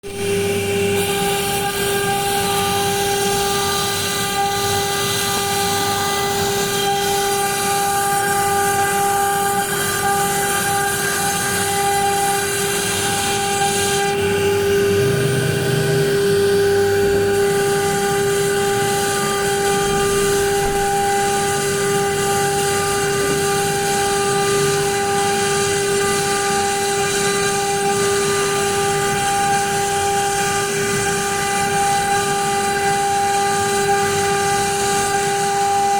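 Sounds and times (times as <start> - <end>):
machine high whine: 0.0 - 35.9.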